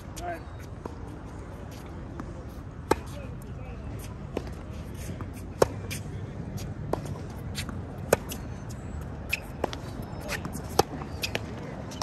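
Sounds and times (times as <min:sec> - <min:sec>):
tennis balls bouncing: 0:00.8 - 0:03.2, 0:04.0 - 0:06.0, 0:06.6 - 0:12.0.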